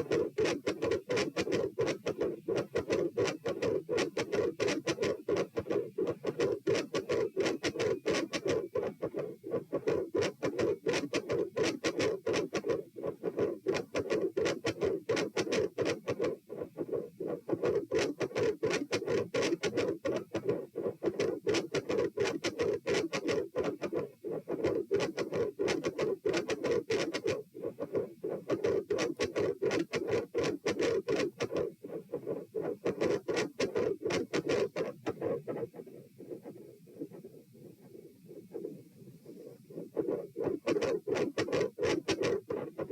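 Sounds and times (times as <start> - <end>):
heart beats: 0.0 - 42.9
heart murmur: 0.0 - 42.9.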